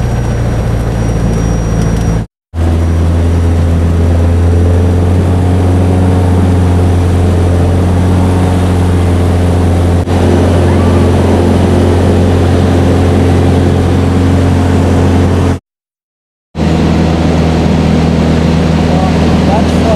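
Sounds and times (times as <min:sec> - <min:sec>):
light aircraft engine and propeller: 0:00.0 - 0:15.6, 0:16.6 - 0:19.9.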